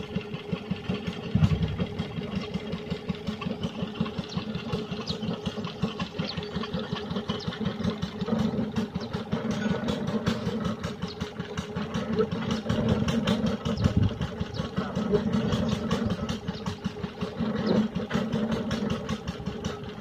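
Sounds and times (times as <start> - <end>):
small stationary engine running: 0.0 - 20.0.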